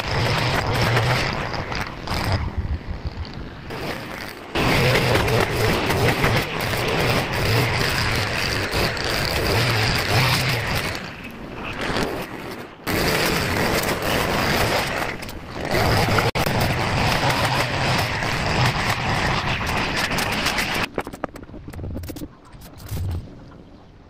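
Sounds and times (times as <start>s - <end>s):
brush cutter cutting grass: 0.0s - 20.9s.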